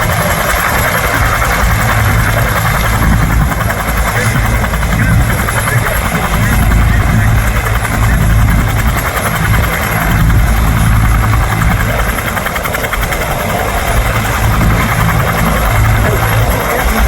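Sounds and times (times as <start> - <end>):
helicopter flying: 0.0 - 17.0.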